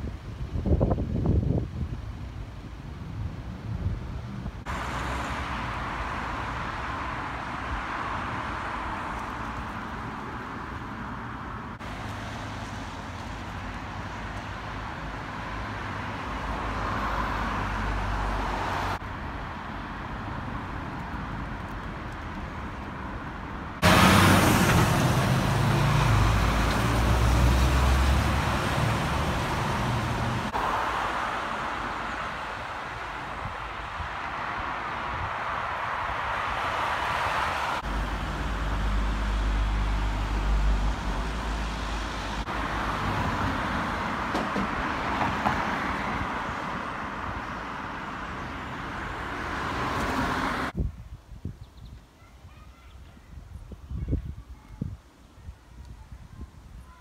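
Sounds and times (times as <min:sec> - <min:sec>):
low rumble of nearby traffic: 0:00.0 - 0:57.0
passing cars hum: 0:02.1 - 0:50.8.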